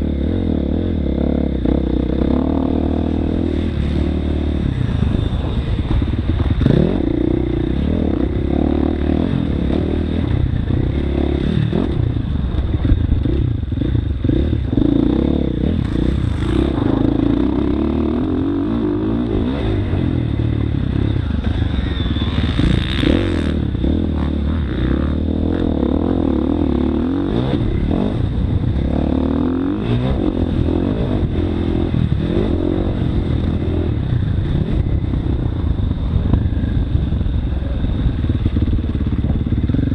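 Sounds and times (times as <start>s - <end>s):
motocross bike engine revving: 0.0s - 35.6s.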